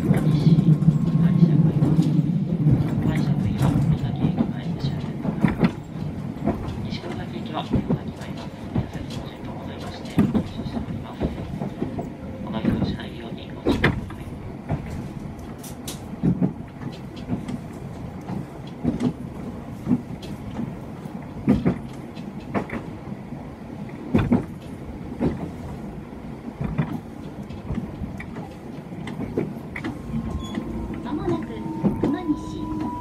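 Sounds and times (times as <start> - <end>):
knocks and clacks from track: 0.0 - 33.0
train wheels rumbling on rail: 0.0 - 33.0.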